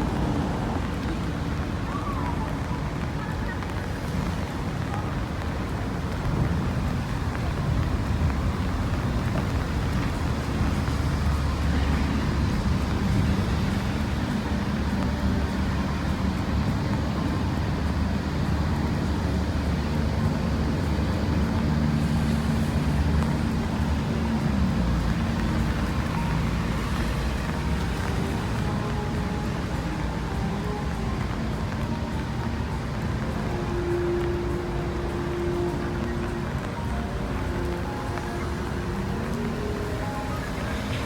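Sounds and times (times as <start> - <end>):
road traffic rumble: 0.0 - 41.0
vehicle engine drone: 0.0 - 41.0.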